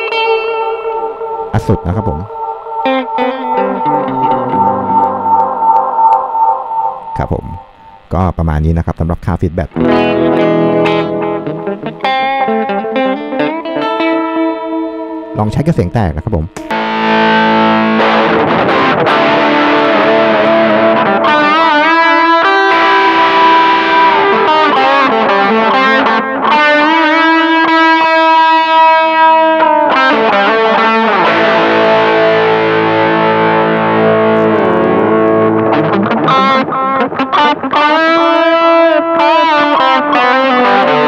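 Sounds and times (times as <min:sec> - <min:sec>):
distorted electric guitar with delay: 0:00.0 - 0:41.0.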